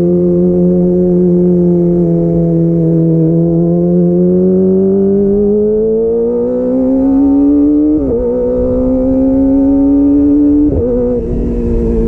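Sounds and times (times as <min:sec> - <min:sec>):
motorcycle engine high-revving: 0:00.0 - 0:12.0.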